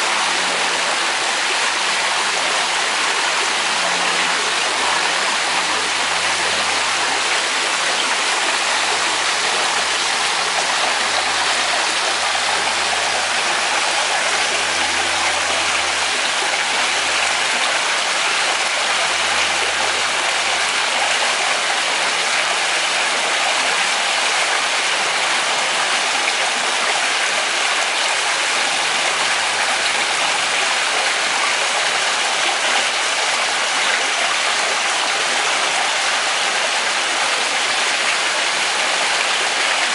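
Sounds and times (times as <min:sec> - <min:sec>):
waterfall spilling into pool: 0:00.0 - 0:39.9.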